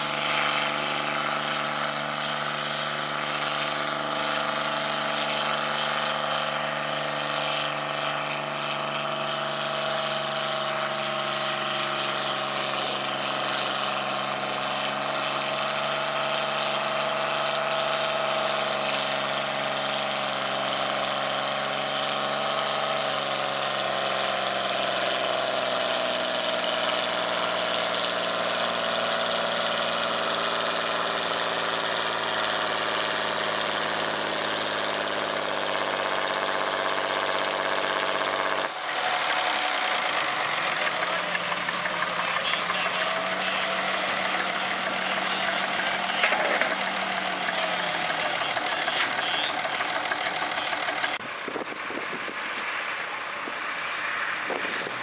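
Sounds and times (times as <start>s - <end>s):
tractor engine under full load: 0.0s - 55.0s.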